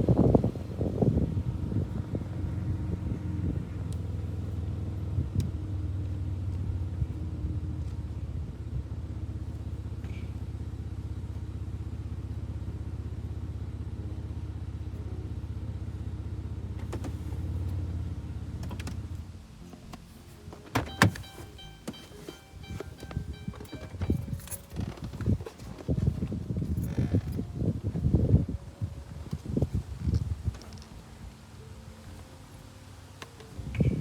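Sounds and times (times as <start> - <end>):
car engine rumbling: 0.0 - 34.0.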